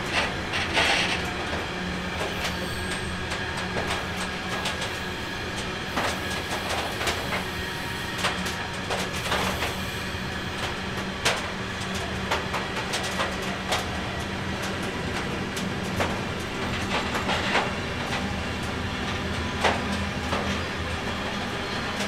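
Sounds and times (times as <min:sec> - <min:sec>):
clicks and knocks of train wheels: 0:00.0 - 0:22.0
train rolling along track: 0:00.0 - 0:22.0.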